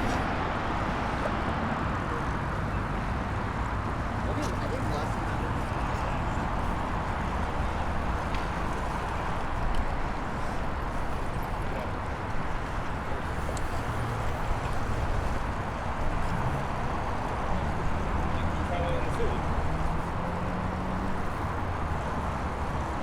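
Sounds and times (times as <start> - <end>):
road traffic rushing: 0.0 - 23.0.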